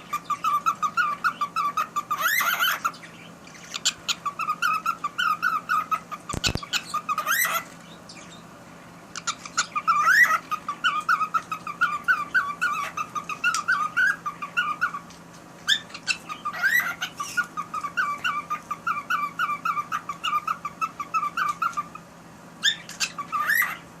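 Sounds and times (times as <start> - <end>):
cockatiel warbling chirps: 0.0 - 8.4, 9.2 - 22.0, 22.6 - 23.9.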